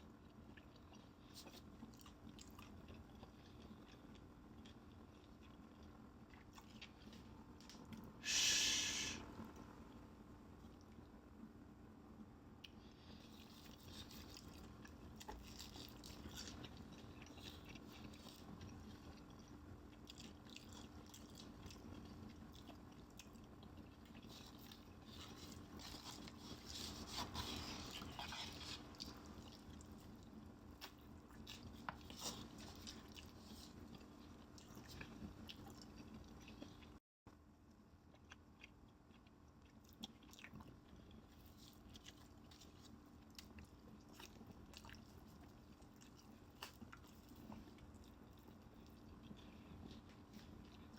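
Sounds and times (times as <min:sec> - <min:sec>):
chewing fried chicken: 0:00.0 - 0:11.3, 0:12.4 - 0:50.9
faint steady hum: 0:00.0 - 0:50.9.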